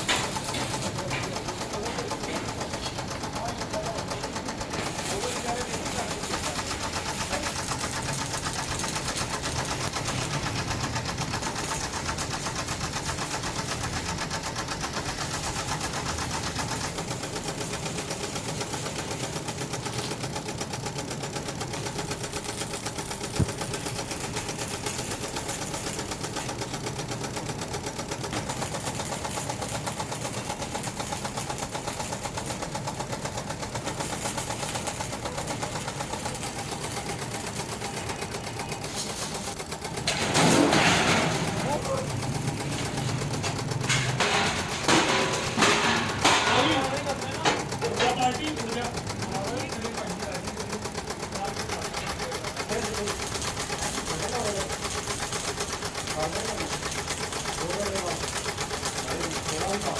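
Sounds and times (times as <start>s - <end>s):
factory machinery rattling: 0.0s - 59.9s.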